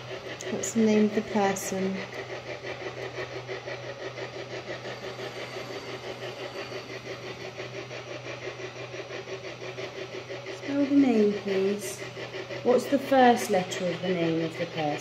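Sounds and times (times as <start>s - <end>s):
engine humming with rapid pulse: 0.0s - 15.0s.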